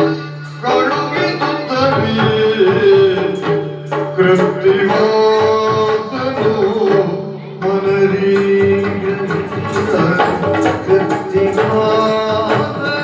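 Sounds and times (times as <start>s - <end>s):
person singing: 0.0s - 13.0s
sharp drum strokes: 0.0s - 13.0s.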